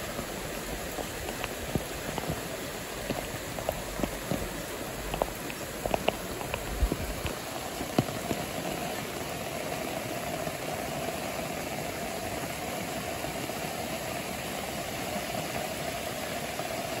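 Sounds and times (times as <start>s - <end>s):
stream rushing over weir: 0.0s - 17.0s.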